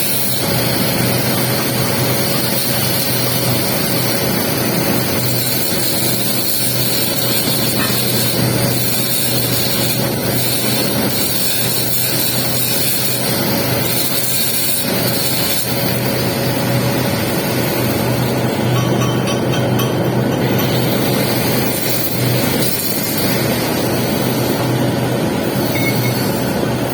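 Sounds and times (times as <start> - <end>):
welding arc hissing and crackling: 0.0 - 26.9.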